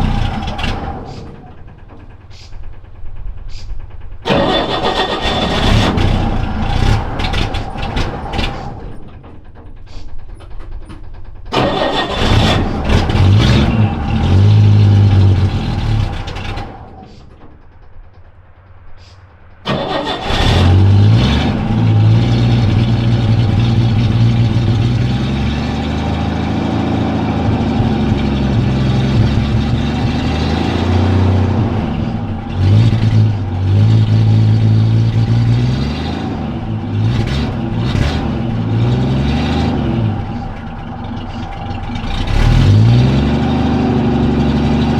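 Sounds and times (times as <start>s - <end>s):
pickup engine running under load: 0.0s - 44.9s.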